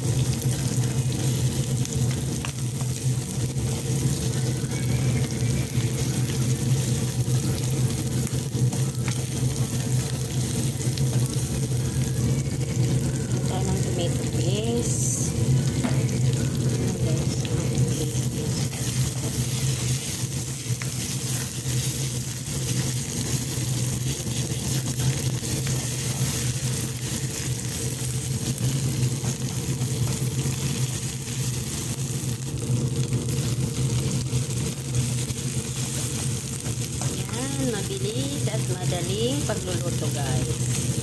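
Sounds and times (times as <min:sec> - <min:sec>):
low hum: 0:00.0 - 0:41.0
meat sizzling in oil: 0:00.0 - 0:41.0.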